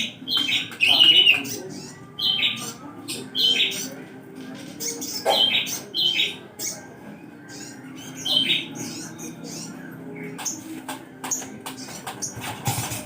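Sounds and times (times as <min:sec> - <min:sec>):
songbird chirping: 0:00.0 - 0:12.8.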